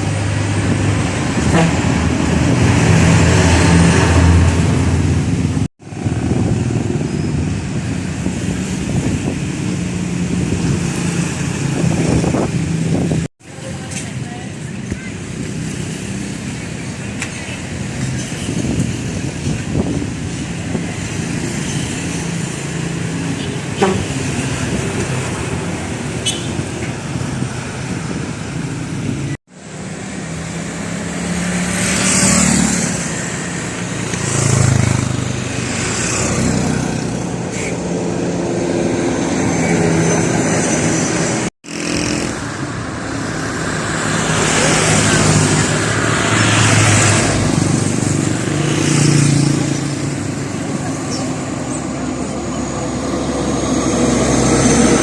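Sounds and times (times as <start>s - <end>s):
road traffic driving past: 0.0s - 55.0s.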